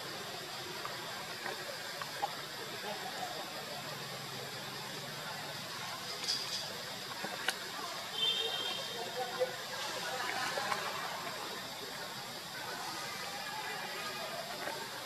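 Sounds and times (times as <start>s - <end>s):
steady forest hiss: 0.0s - 15.0s.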